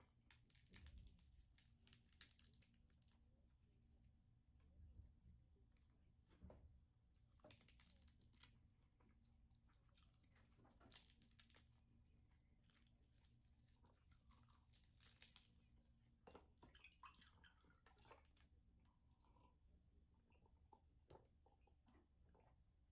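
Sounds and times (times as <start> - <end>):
faint clicks and crunching: 0.0 - 22.7.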